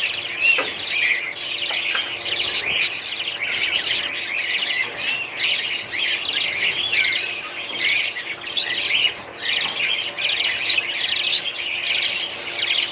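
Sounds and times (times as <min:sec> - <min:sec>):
budgerigars chirping: 0:00.0 - 0:12.9.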